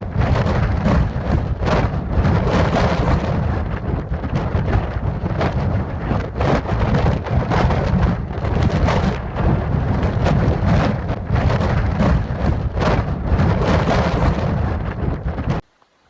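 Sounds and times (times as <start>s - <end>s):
wind buffeting microphone: 0.0s - 15.7s
rain: 0.0s - 16.0s.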